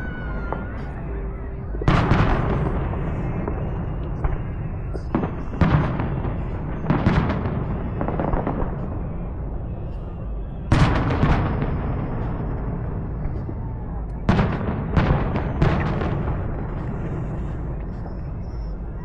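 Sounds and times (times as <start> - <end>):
fireworks booming and crackling: 0.0 - 19.0
steady low rumble: 0.0 - 19.0.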